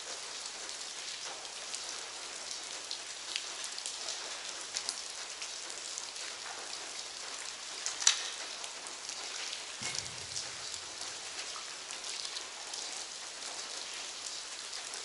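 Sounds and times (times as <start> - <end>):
rain patter: 0.0 - 15.0
water drips: 0.6 - 15.0.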